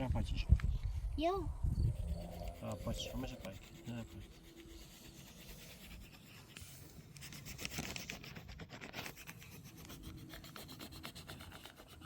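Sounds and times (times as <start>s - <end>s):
quick scratchy rubbing: 1.8s - 12.0s.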